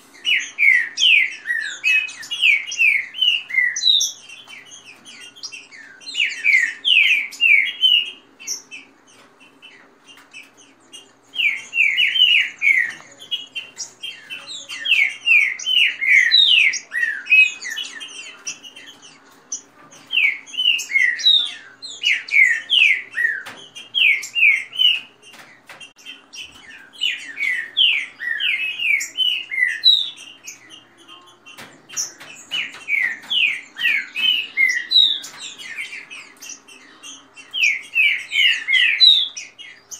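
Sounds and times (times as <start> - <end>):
birds singing whistled phrases: 0.0 - 39.9.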